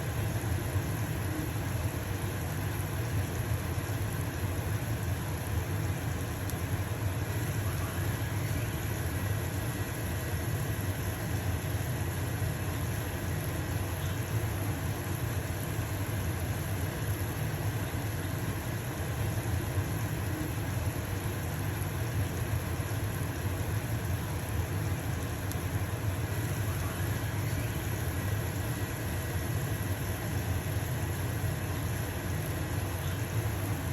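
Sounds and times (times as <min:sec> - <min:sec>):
stove fan humming: 0:00.0 - 0:33.9.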